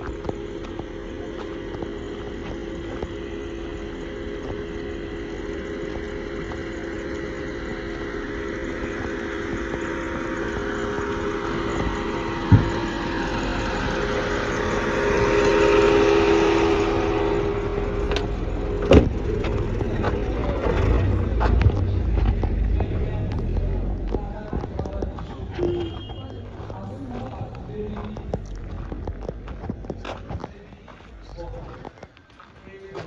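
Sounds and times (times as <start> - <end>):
sharp thumps: 0.0 - 30.8
road noise: 0.0 - 33.0
vehicle engine running: 0.0 - 33.0.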